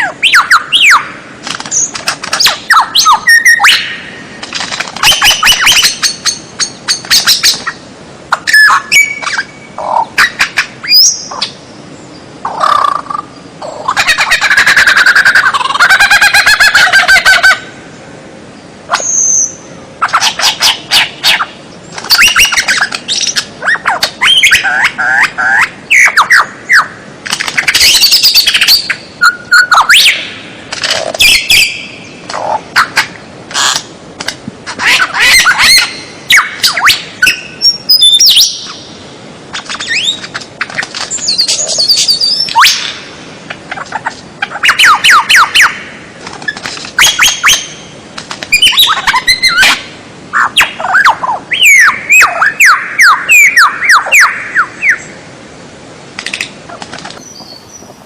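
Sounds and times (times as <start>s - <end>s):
songbird singing: 0.0s - 34.0s, 34.6s - 55.4s, 56.2s - 58.0s.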